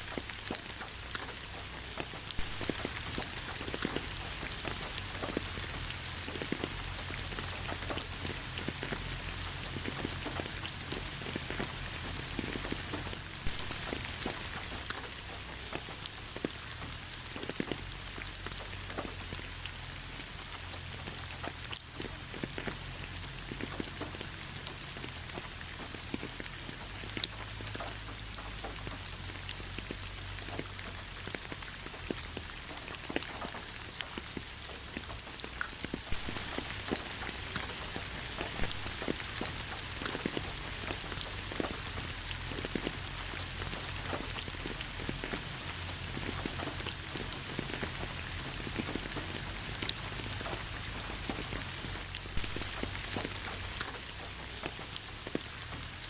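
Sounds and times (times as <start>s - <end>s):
steady rain with drops ticking: 0.0s - 56.0s.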